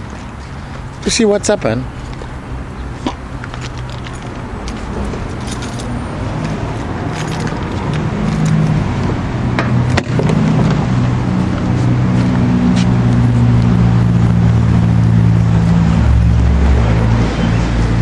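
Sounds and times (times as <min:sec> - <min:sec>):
car engine idling: 0:01.7 - 0:18.0.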